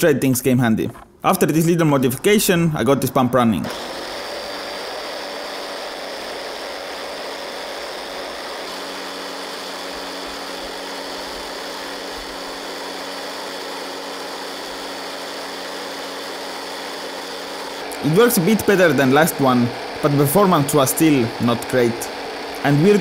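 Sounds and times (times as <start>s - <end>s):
electric motor and gearbox whirring: 1.9s - 23.0s.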